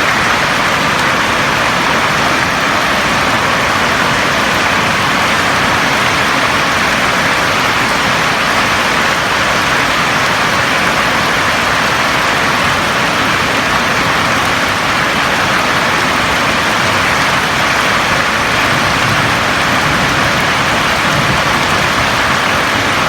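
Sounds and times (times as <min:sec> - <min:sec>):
rain falling on a roof: 0:00.0 - 0:23.0.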